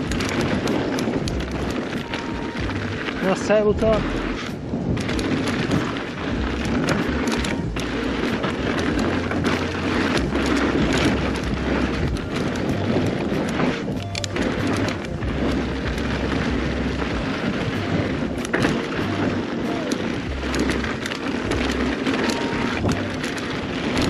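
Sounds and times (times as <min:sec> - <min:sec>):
bike rattling and knocking: 0:00.0 - 0:24.0
bike tyres rolling over dirt: 0:00.0 - 0:24.0
wind on microphone: 0:00.0 - 0:24.0.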